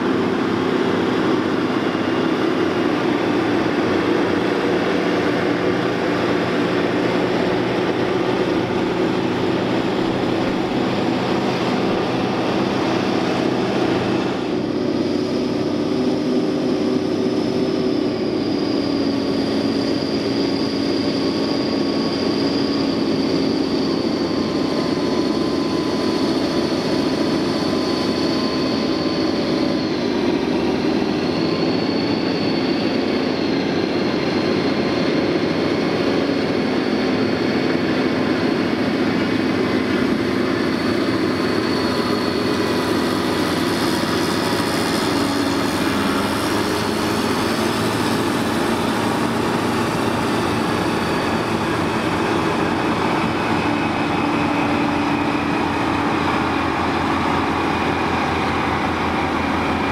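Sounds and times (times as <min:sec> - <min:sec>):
heavy diesel engines running: 0:00.0 - 0:59.9
high engine whine: 0:00.0 - 0:59.9.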